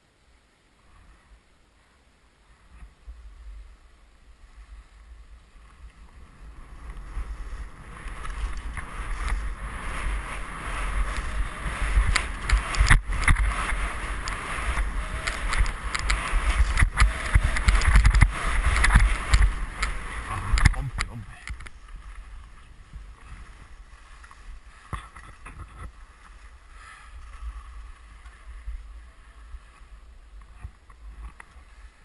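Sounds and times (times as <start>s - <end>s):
skis hissing and scraping on snow: 0.8s - 32.0s
wind buffeting microphone: 2.6s - 32.0s.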